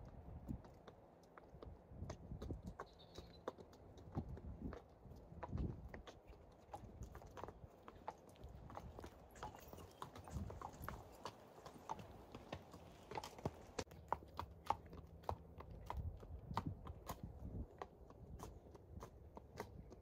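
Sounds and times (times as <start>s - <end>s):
horse hooves on tarmac: 0.0s - 20.0s.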